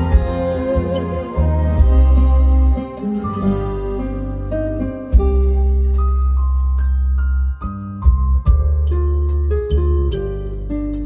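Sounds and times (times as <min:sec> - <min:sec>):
deep sustained bass notes: 0:00.0 - 0:11.0
plucked acoustic guitar: 0:00.0 - 0:11.0.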